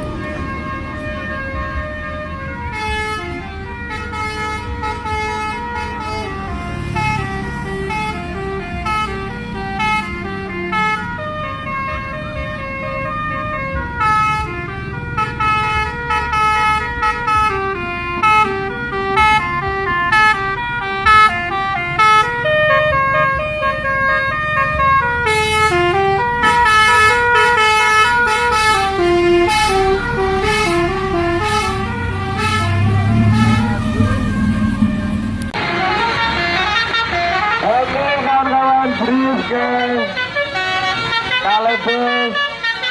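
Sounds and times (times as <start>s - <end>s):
musical bus horn tune: 0.0s - 42.9s.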